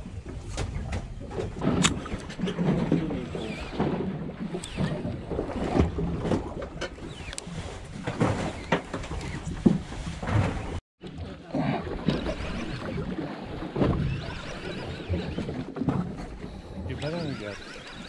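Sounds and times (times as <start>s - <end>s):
knocks and rustles from rod and reel: 0.0s - 11.2s, 12.0s - 18.0s
water noise: 0.0s - 18.0s
wind: 0.0s - 18.0s.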